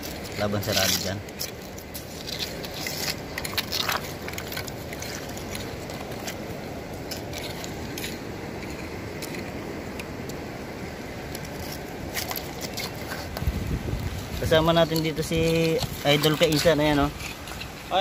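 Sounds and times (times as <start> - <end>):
small shells clicking and scraping: 0.0 - 10.4, 11.2 - 17.9.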